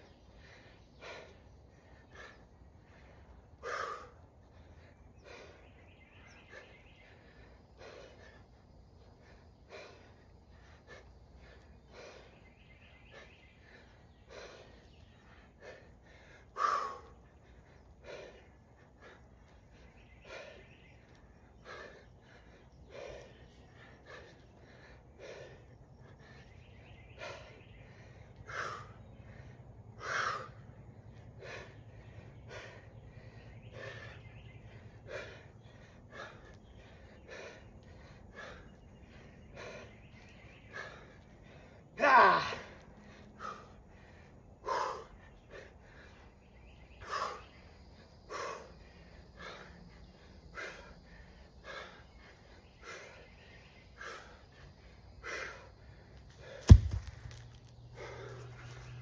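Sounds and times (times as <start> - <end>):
person breathing hard: 0.0 - 59.0.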